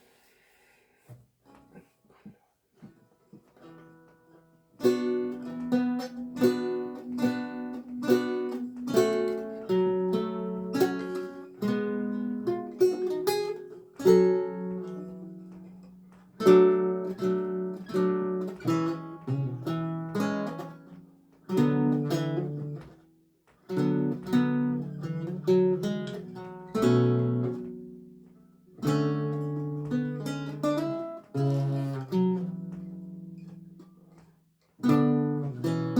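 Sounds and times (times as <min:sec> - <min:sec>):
lute plucked notes: 0:03.3 - 0:35.9.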